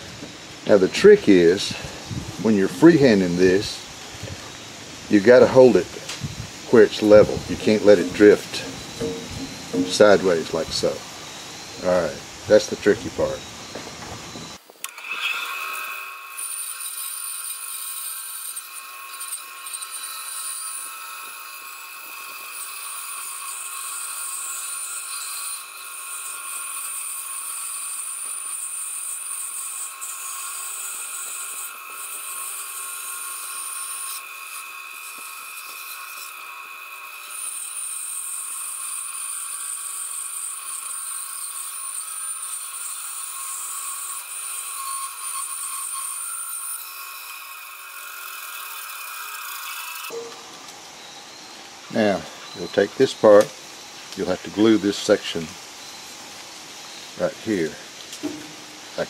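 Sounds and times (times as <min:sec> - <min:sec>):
bandsaw motor hum: 0:00.0 - 0:51.9.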